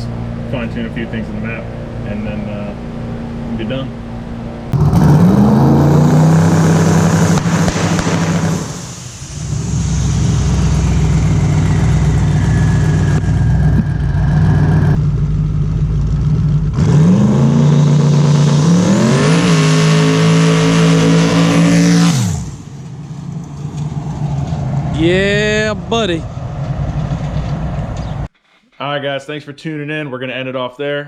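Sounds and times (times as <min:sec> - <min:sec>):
car engine revving under load: 0:00.0 - 0:28.3
turbo whine: 0:00.0 - 0:28.3.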